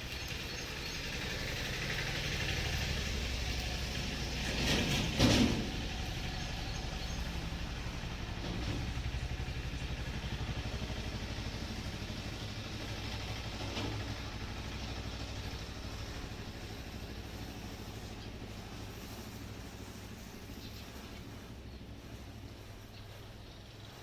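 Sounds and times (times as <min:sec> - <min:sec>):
motor idling: 0:00.0 - 0:24.0.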